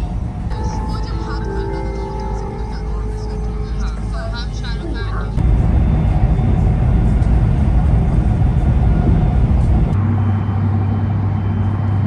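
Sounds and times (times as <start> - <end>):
train rumbling from inside carriage: 0.0 - 12.0.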